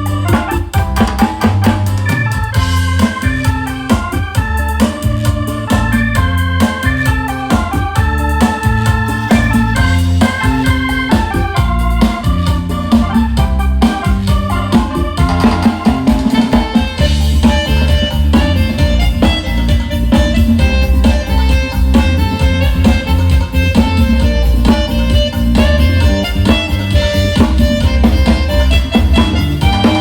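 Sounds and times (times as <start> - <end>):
drum kit beat: 0.0 - 30.0
electronic organ chords: 0.0 - 30.0
heavy bass line: 0.0 - 30.0.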